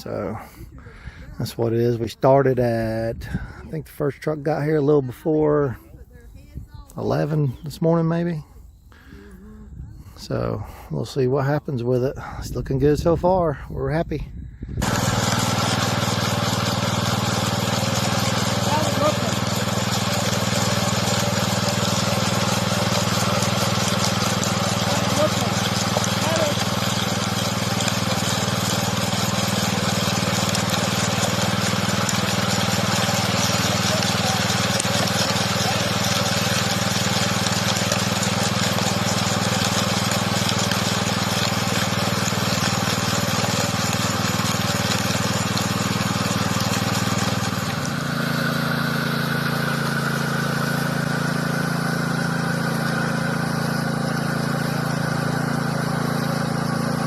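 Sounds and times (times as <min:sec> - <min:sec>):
engine running steadily: 0:00.0 - 0:03.9, 0:14.7 - 0:57.0.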